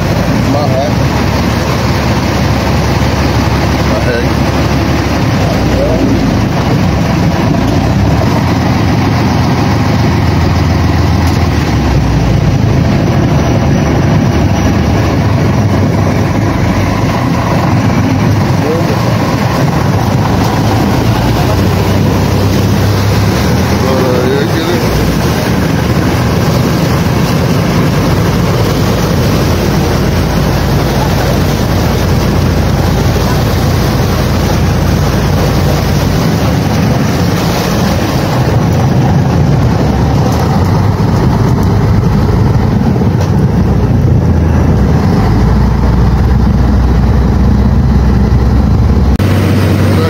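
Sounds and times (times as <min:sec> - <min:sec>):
boat engine running: 0:00.0 - 0:50.0
wind buffeting microphone: 0:00.0 - 0:50.0.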